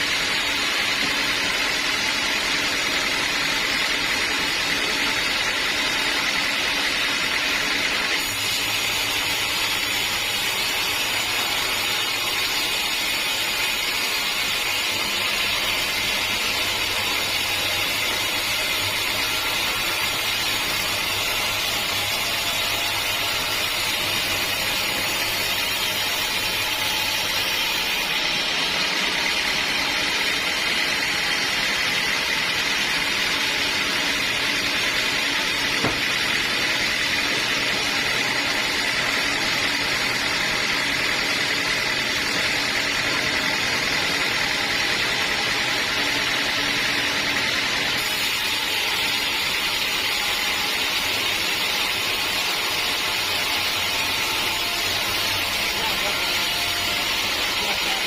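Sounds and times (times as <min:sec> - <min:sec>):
sawmill hiss: 0:07.4 - 0:58.0.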